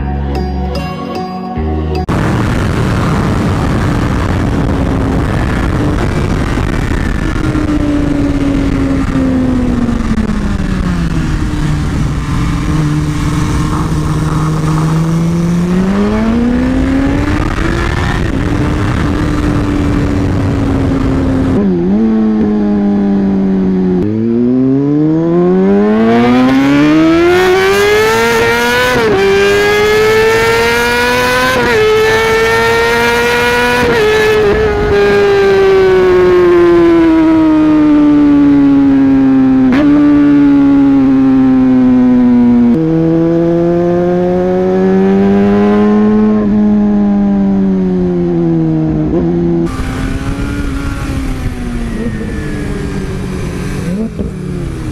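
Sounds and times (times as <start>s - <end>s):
motorcycle engines running hard: 2.0s - 54.9s
motorcycle accelerating through gears: 2.1s - 54.9s.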